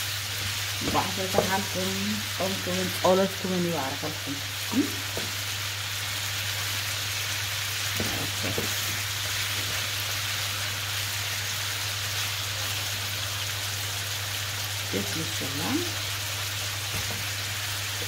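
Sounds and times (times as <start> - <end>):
meat sizzling in frying pan: 0.0 - 18.0.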